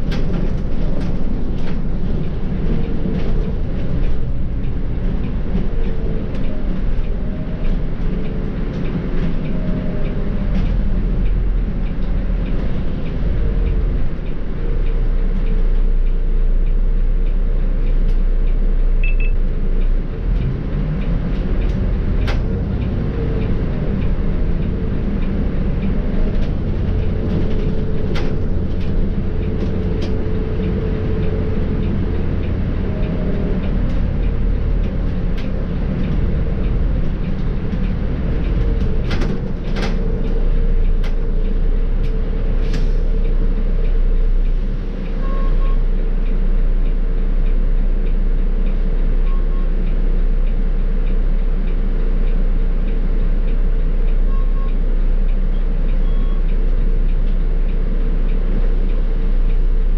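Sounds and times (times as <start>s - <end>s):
diesel bus engine rumble: 0.0s - 59.9s.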